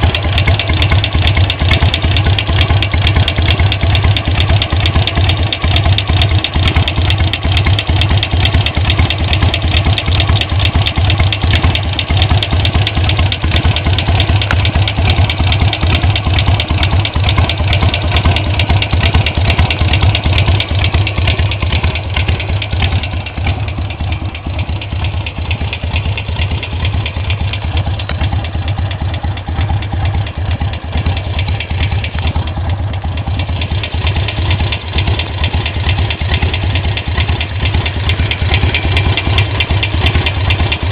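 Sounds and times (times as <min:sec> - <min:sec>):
engine ticking: 0:00.0 - 0:40.9
motorcycle engine idling: 0:00.0 - 0:40.9.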